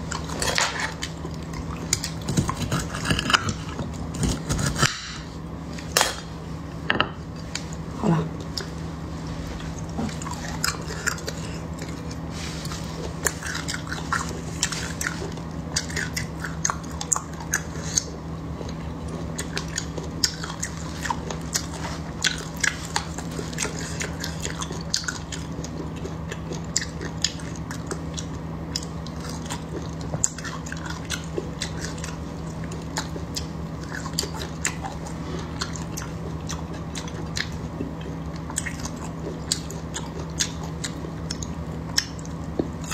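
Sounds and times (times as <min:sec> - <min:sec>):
chewing soft food: 0:00.0 - 0:06.0, 0:06.6 - 0:42.9
steady low hum: 0:00.0 - 0:42.9.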